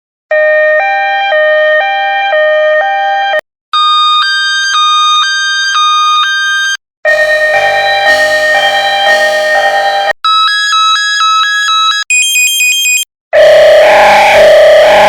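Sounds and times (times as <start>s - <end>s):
hi-lo ambulance siren: 0.3s - 12.0s, 13.4s - 15.0s.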